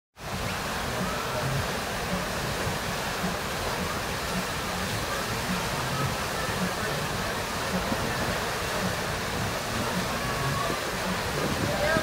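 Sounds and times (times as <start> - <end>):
water rushing over a wave: 0.2 - 12.0.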